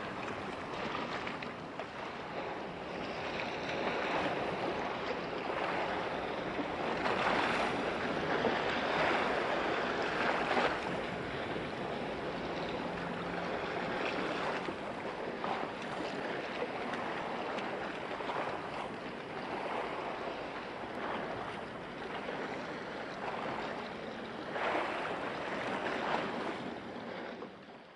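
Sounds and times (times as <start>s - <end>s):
waves washing against shore: 0.0s - 27.6s.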